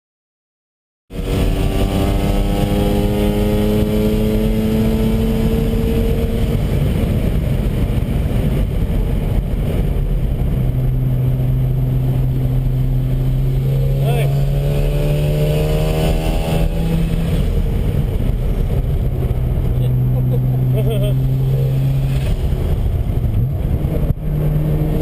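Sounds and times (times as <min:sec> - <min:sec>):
wind and road noise: 0:01.1 - 0:25.0.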